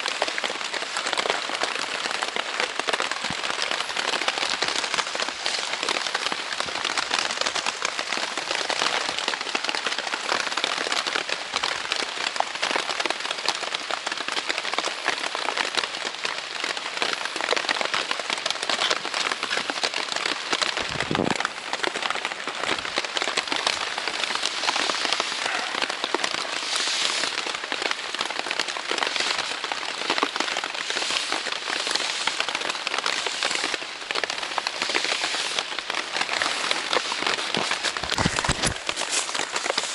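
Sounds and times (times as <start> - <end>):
heavy rain drumming on tent: 0.0 - 39.9.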